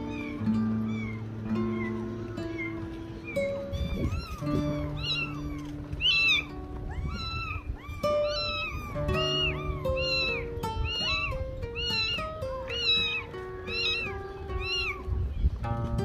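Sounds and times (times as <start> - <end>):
kittens meowing: 0.0 - 15.6.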